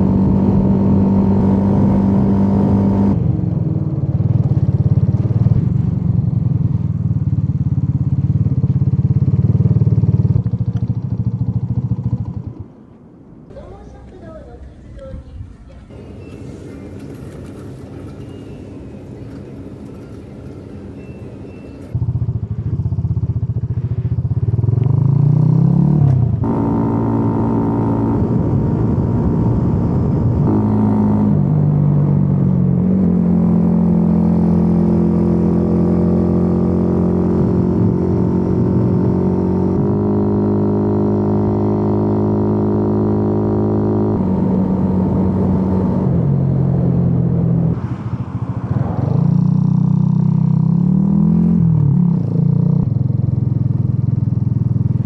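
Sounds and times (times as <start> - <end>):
moped engine running: 0.0 - 12.9, 15.7 - 55.0.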